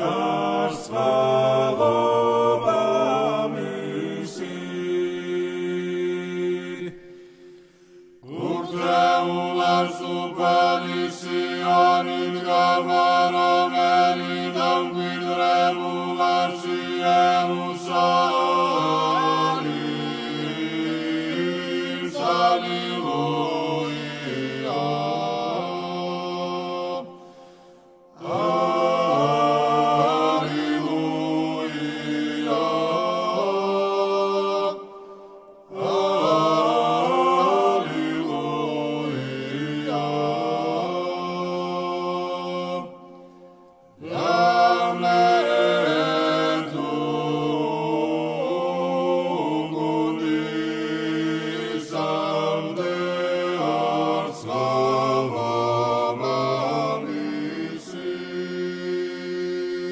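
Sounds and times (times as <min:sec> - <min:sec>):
choir singing unaccompanied: 0:00.0 - 0:07.1, 0:08.2 - 0:59.9.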